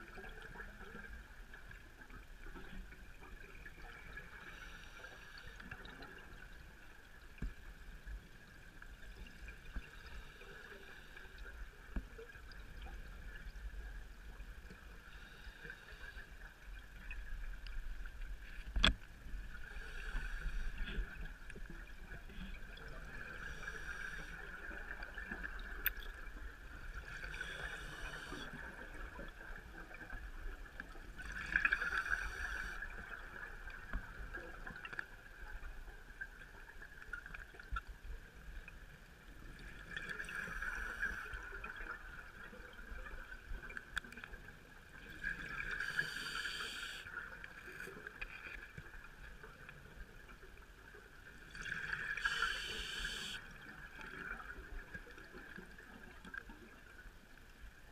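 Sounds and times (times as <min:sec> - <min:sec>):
muffled underwater hiss: 0:00.0 - 0:57.9.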